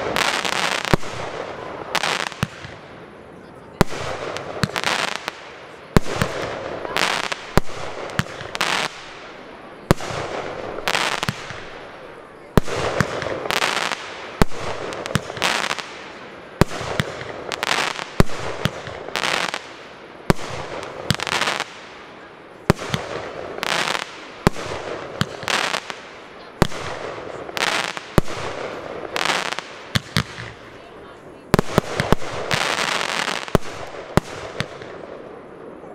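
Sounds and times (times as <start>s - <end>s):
fireworks bursting with bangs: 0.0s - 35.9s.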